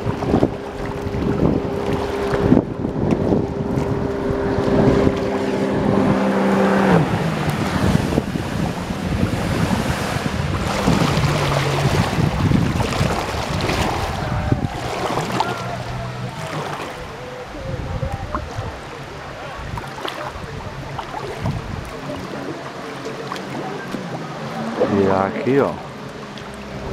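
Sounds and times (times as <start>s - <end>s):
jet ski engine: 0.0s - 26.9s
water splashing: 0.0s - 26.9s
wind buffeting microphone: 0.0s - 26.9s.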